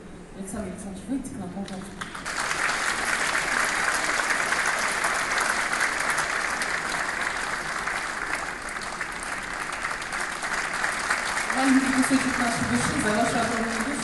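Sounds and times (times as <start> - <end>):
large audience applauding: 2.0 - 14.0.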